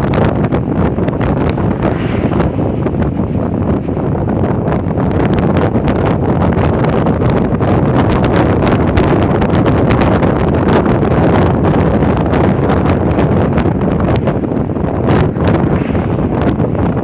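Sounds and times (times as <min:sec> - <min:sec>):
vehicle engine and road noise: 0:00.0 - 0:17.0
wind buffeting microphone: 0:00.0 - 0:17.0.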